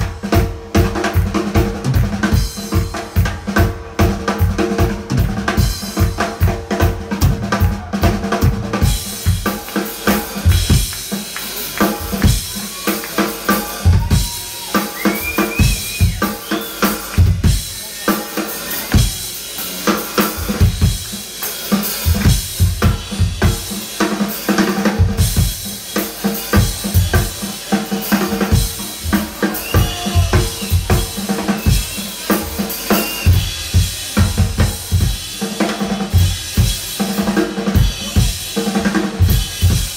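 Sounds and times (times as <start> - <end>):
drum kit played hard: 0.0 - 39.9.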